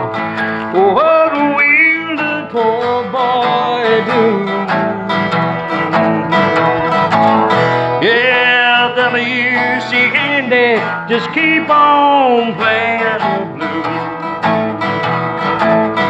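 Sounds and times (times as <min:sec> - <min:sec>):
blues resonator guitar: 0:00.0 - 0:16.0.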